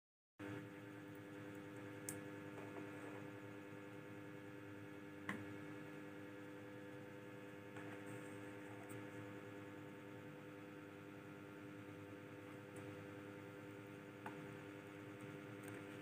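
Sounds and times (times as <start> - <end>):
steady low hum: 0.4 - 16.0.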